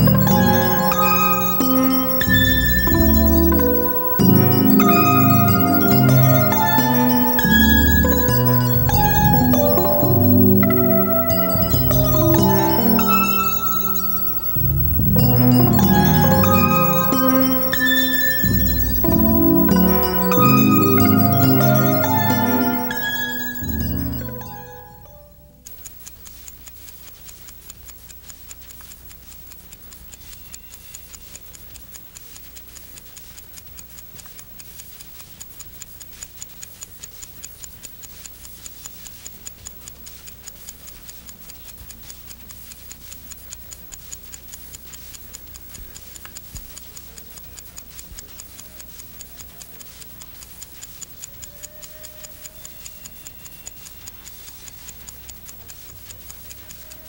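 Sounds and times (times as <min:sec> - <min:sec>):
clock ticking: 0:00.0 - 0:57.0
low mains hum: 0:00.0 - 0:57.0.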